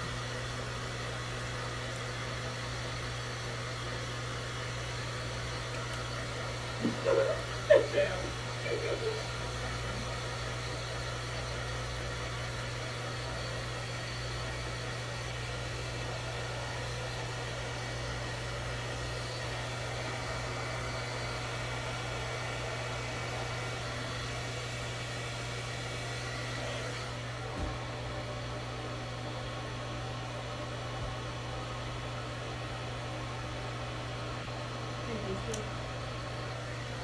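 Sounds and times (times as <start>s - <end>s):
blow dryer running: 0.0s - 37.0s.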